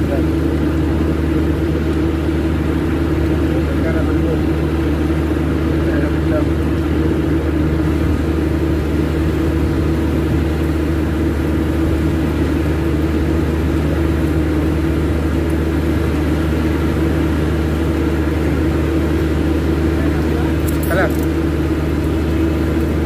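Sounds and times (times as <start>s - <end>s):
machinery droning: 0.0s - 23.0s.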